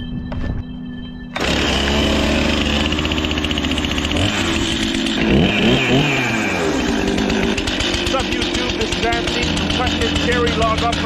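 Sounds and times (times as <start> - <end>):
chainsaw starting and idling: 1.4 - 11.0.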